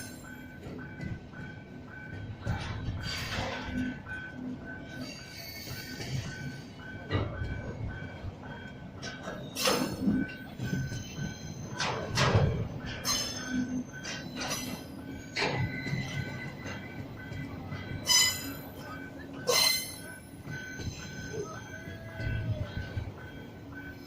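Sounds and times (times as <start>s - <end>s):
railroad cars rolling: 0.0s - 24.0s
wheels and couplings clanking: 0.0s - 24.0s.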